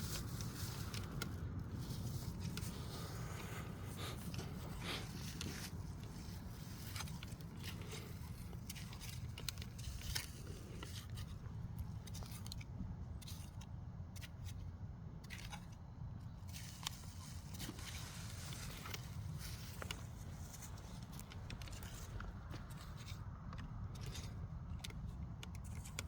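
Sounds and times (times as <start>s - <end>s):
digging scrapes in soil: 0.0s - 14.6s, 15.2s - 25.0s.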